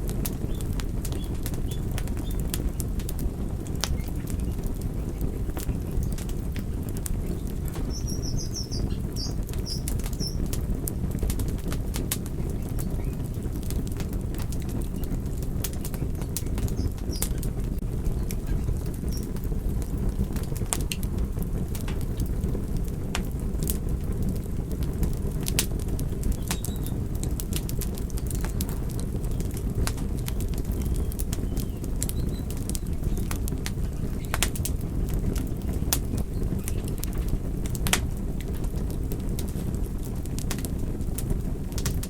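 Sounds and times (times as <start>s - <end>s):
fire burning rumble: 0.0s - 42.0s
fire crackles: 0.0s - 42.0s.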